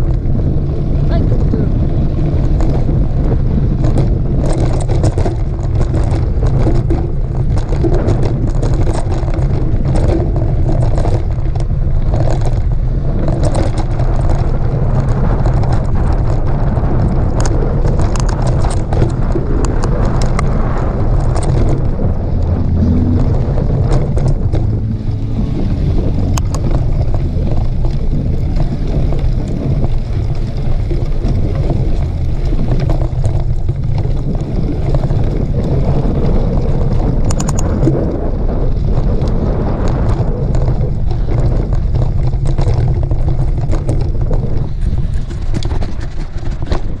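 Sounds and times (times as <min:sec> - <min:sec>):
wind buffeting microphone: 0:00.0 - 0:47.0
scattered clicks and knocks: 0:03.8 - 0:37.9, 0:39.2 - 0:47.0.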